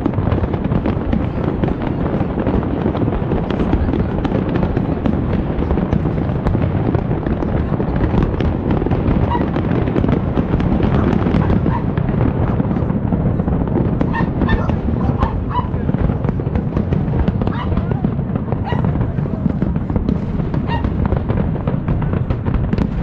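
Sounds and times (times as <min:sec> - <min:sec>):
fireworks booming and crackling: 0:00.0 - 0:23.0.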